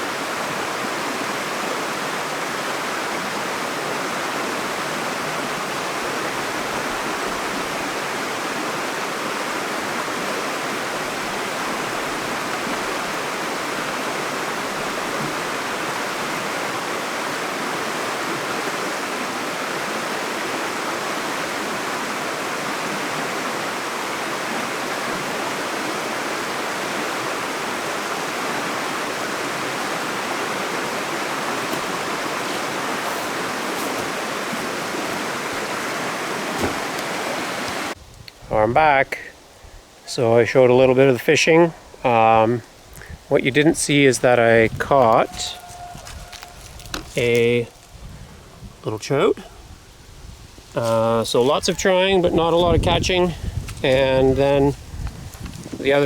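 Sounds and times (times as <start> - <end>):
stream water rushing: 0.0 - 38.0, 38.8 - 56.0.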